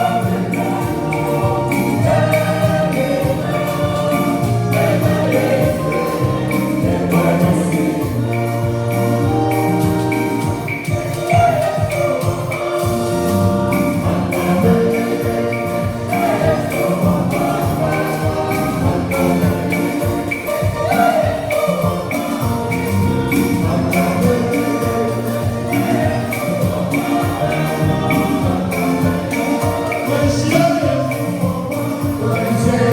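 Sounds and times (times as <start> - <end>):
church band music: 0.0 - 32.9
jingling percussion: 0.0 - 32.9.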